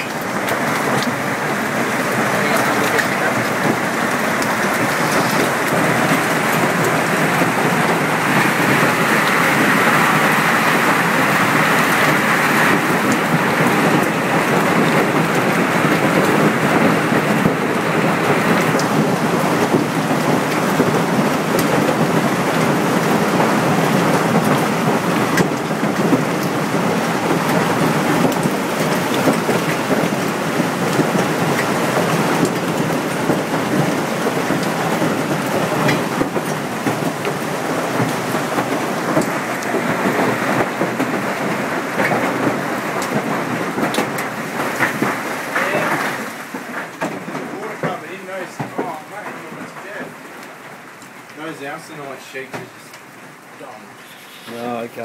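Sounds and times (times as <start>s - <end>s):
hail clattering: 0.0s - 55.0s
heavy rain pelting: 0.0s - 55.0s.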